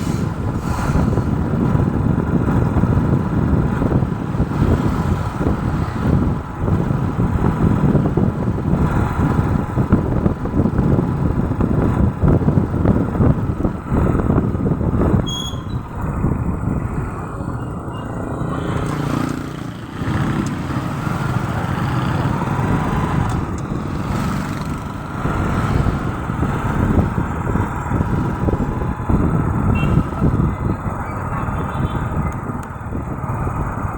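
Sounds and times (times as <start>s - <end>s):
vehicle engines: 0.0s - 33.9s.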